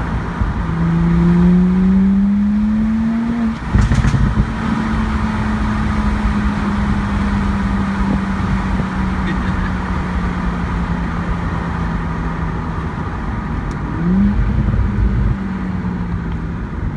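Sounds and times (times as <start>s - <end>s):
car engine droning: 0.0s - 16.9s.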